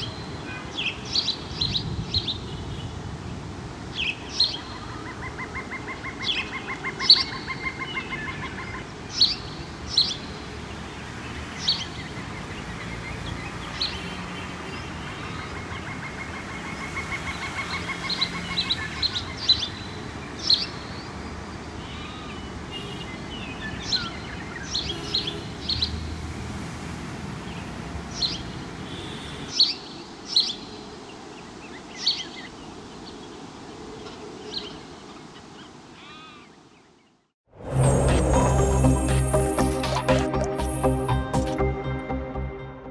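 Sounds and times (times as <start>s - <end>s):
birds chirping: 0.0s - 2.9s, 3.9s - 26.2s, 27.4s - 41.8s.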